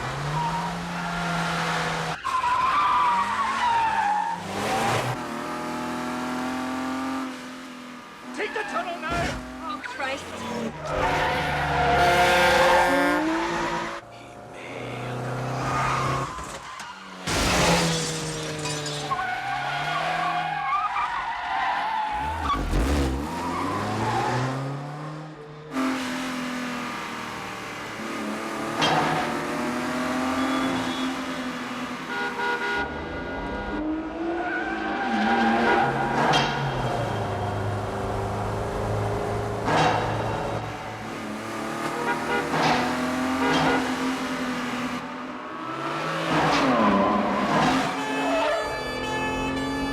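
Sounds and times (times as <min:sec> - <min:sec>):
tyres squealing and skidding: 0:00.0 - 0:05.4, 0:08.2 - 0:26.0, 0:28.6 - 0:38.3, 0:39.6 - 0:49.9
car engines revving hard: 0:00.0 - 0:48.2.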